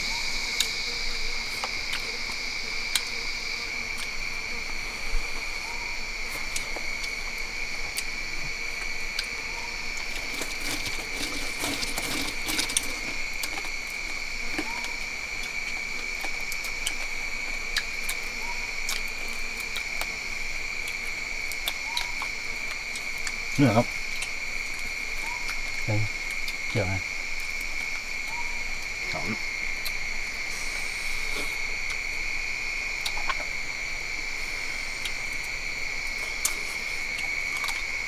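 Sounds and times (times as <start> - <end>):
insect chorus buzzing: 0.0 - 38.0.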